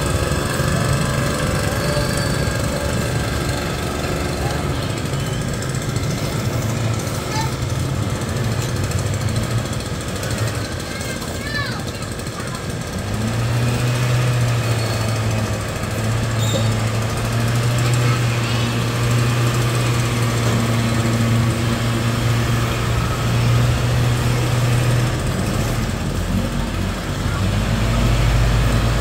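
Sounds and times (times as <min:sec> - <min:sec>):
deep engine rumble: 0:00.0 - 0:29.0
engine humming: 0:00.0 - 0:29.0.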